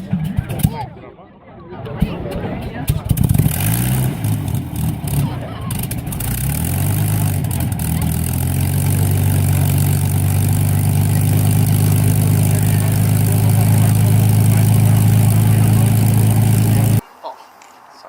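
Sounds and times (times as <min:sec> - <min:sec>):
piston aero engine running: 0:00.0 - 0:00.8, 0:02.0 - 0:17.0.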